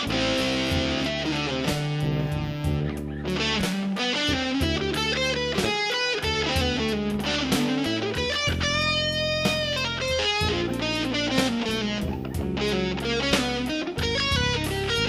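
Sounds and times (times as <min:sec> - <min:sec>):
electric guitar: 0:00.0 - 0:15.0
jazz blues band music: 0:00.0 - 0:15.0.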